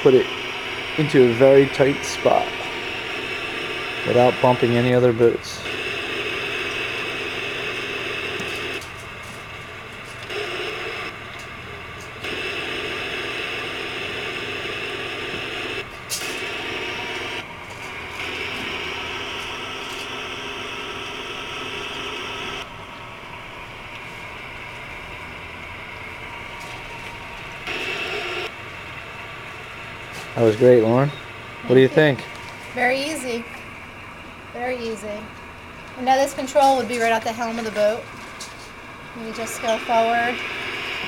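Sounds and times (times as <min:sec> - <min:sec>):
boat engines running: 0:00.0 - 0:41.0.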